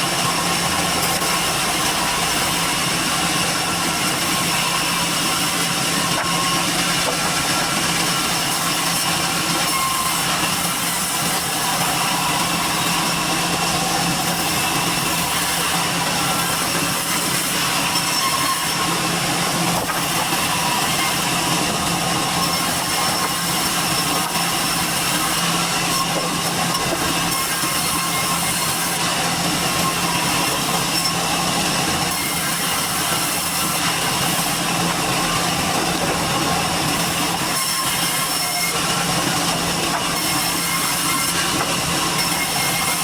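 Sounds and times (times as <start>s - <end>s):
sawmill machinery running: 0.0s - 43.0s.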